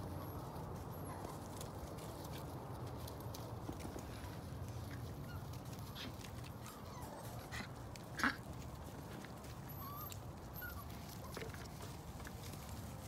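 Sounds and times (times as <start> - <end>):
puppies yipping and squeaking: 0.0 - 2.5, 4.2 - 13.0.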